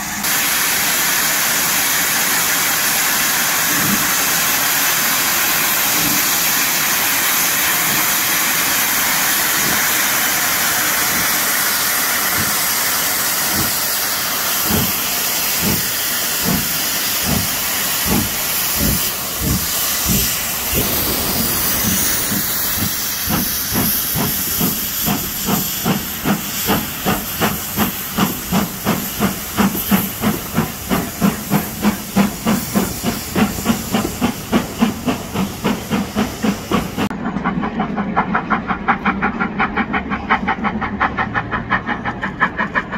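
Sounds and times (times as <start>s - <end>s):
steam hissing: 0.0s - 42.9s
steam locomotive exhaust chuffs: 0.0s - 42.9s.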